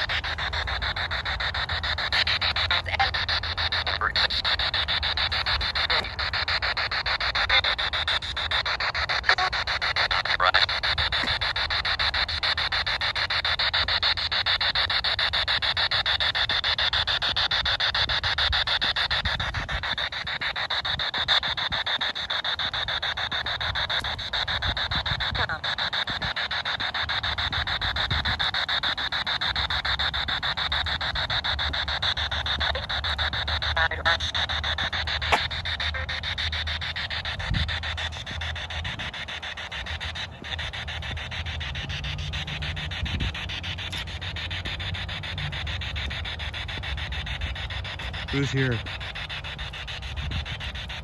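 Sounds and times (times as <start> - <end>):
radio static bursts: 0.0 - 51.0.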